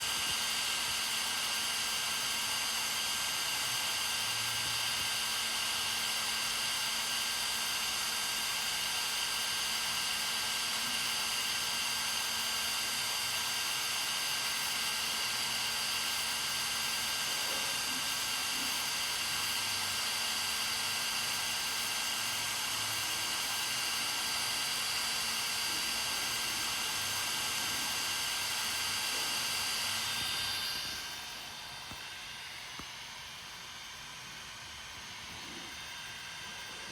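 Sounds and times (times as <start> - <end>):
machine hissing and whining: 0.0 - 36.9.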